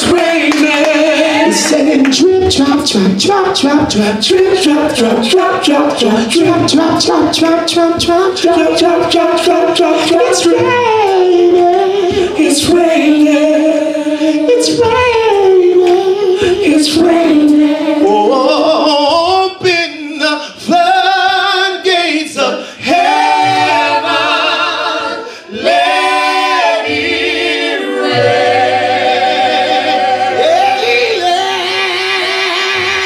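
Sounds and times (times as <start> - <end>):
gospel choir singing in harmony: 0.0 - 33.0.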